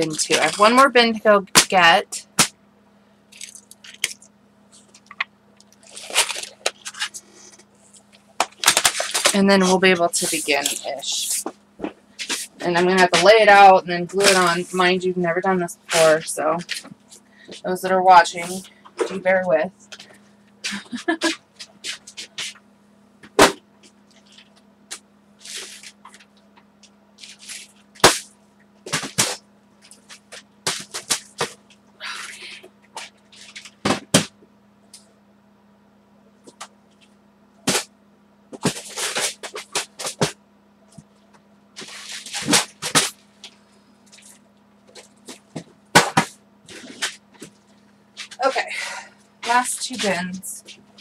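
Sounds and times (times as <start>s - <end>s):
rustling and clattering supplies: 0.0s - 1.0s, 3.3s - 14.9s, 15.9s - 22.6s, 23.2s - 26.5s, 27.2s - 31.8s, 32.8s - 34.4s, 38.5s - 51.0s
faint hum: 0.0s - 51.0s.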